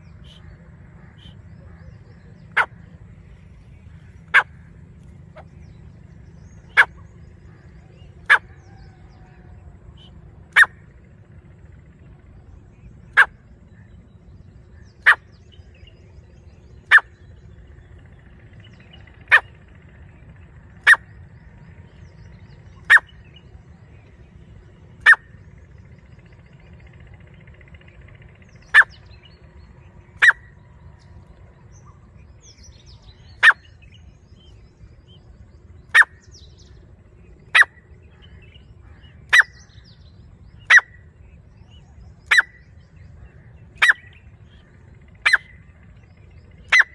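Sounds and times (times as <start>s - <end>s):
francolin calls: 0.0s - 46.9s.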